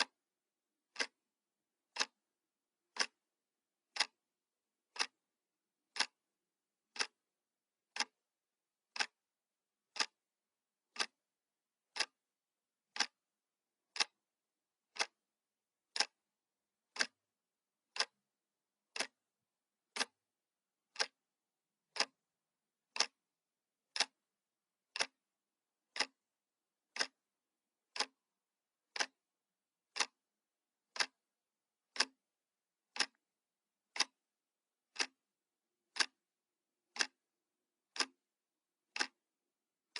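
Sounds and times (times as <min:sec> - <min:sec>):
clock ticking: 0:00.0 - 0:00.2, 0:00.8 - 0:08.3, 0:08.9 - 0:09.2, 0:09.8 - 0:12.2, 0:12.8 - 0:23.3, 0:23.9 - 0:35.3, 0:35.9 - 0:38.3, 0:38.9 - 0:39.9.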